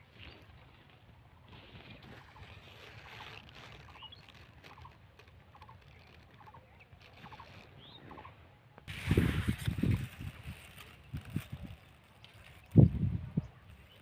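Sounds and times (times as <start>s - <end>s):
low rumble of wind: 0.0s - 14.0s.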